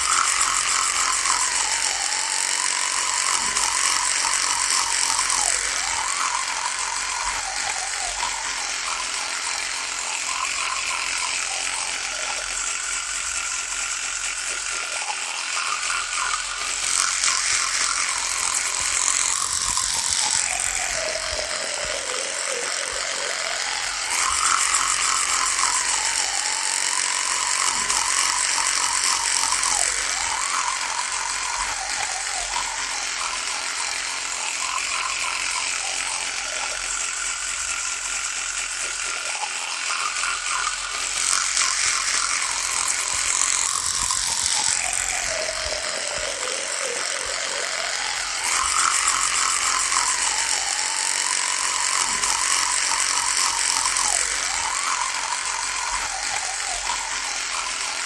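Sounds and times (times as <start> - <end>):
electric toothbrush buzzing: 0.0 - 58.0.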